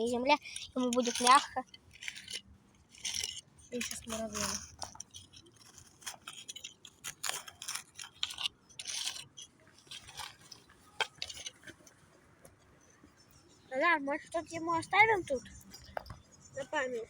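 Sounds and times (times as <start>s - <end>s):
scratchy scraping and rustling: 0.0s - 17.0s.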